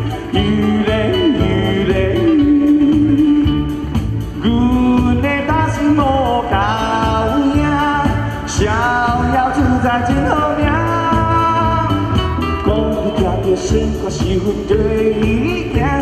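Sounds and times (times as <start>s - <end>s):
live band playing a song: 0.0s - 16.0s
steady bass beat: 0.0s - 16.0s.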